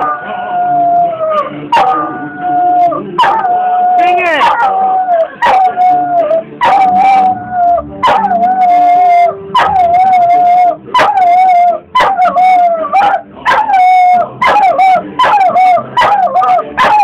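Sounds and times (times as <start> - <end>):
dog howling: 0.0 - 17.0
television commercial audio: 0.0 - 17.0.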